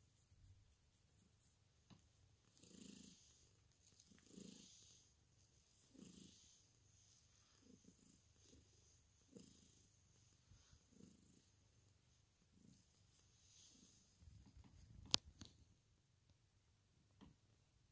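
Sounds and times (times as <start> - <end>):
cat purring: 0.1 - 15.4.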